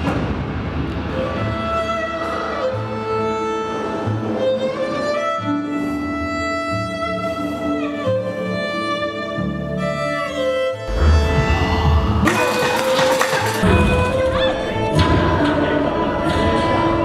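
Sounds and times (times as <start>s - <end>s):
low held string notes: 0.9s - 17.0s
violin melody: 1.2s - 15.9s.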